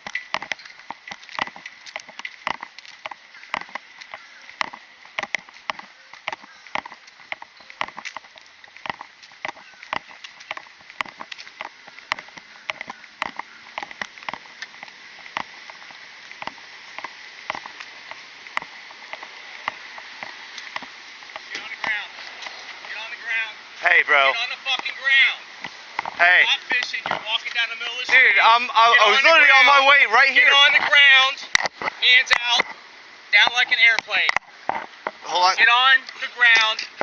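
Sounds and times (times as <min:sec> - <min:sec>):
footsteps on pavement: 0:00.0 - 0:37.0.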